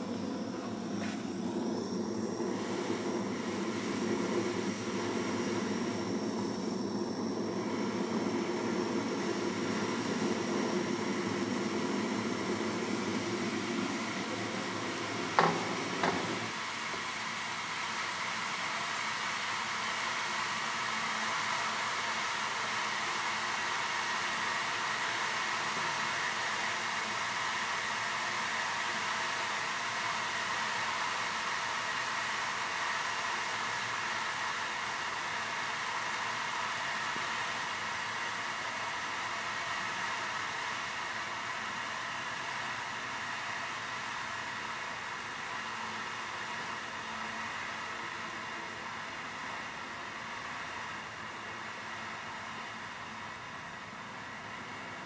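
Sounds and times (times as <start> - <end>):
blowtorch flame roaring: 0.0 - 49.9
steady high hiss: 0.0 - 55.0.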